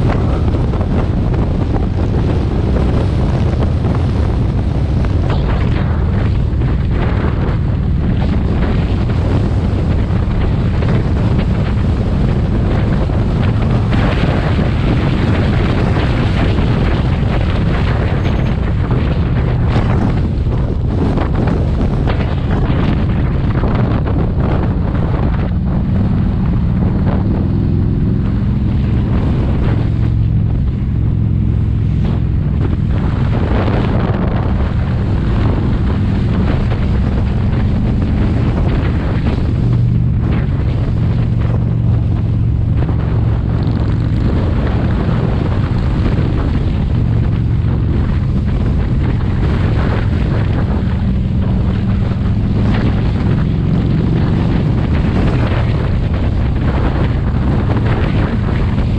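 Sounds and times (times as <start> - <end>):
motorcycle engine cruising: 0.0 - 58.9
wind buffeting microphone: 0.0 - 58.9.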